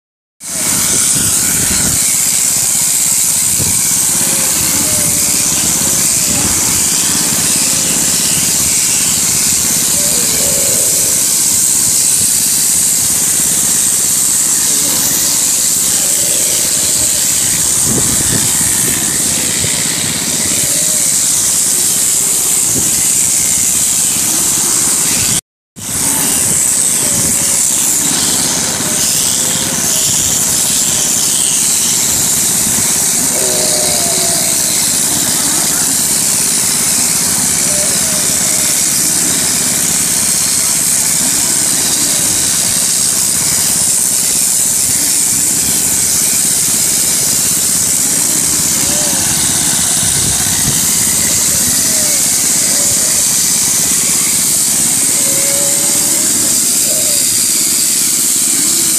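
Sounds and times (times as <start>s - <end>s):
high hiss: 0.4s - 58.9s
small petrol engine running: 0.4s - 58.9s.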